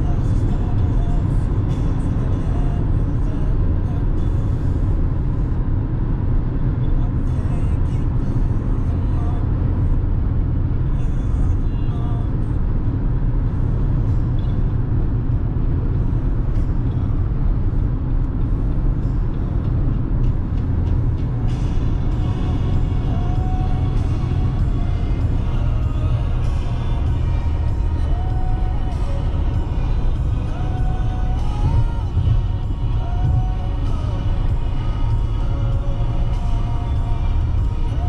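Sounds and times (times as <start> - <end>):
road and tyre noise in car: 0.0 - 38.0.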